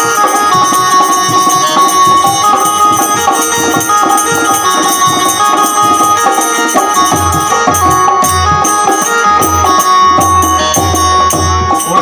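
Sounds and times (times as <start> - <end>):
bass drum beats: 0.0 - 12.0
hand drum rhythm: 0.0 - 12.0
sustained folk melody: 0.0 - 12.0.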